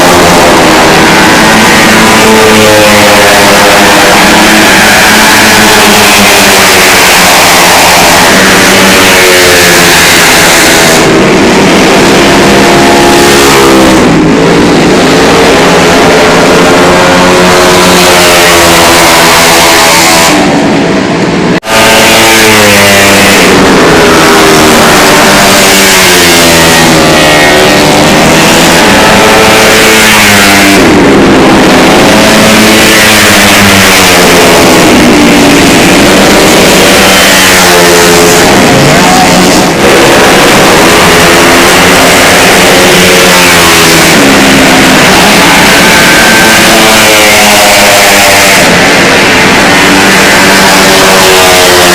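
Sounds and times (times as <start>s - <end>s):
scooter engines revving: 0.0s - 51.9s.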